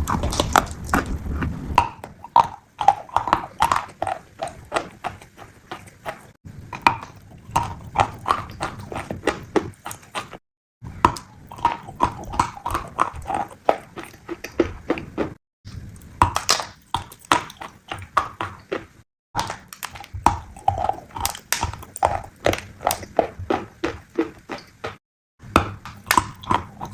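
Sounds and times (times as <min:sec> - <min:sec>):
piglet chewing crunchy food: 0:00.0 - 0:26.9.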